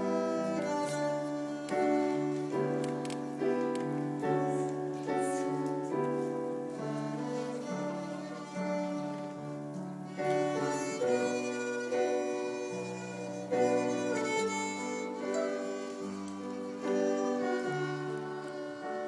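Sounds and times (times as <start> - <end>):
piano accompaniment: 0.0 - 19.0
violins playing slow melody: 0.0 - 19.0.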